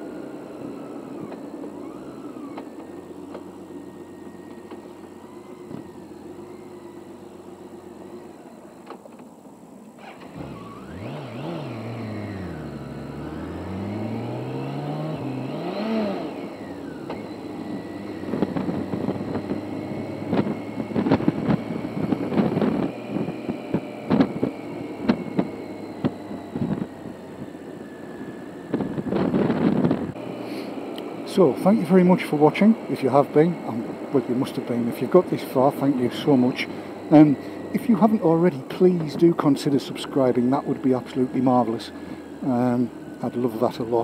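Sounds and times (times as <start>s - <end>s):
motorcycle engine: 0.0s - 9.0s, 10.0s - 44.0s
road noise: 0.0s - 44.0s.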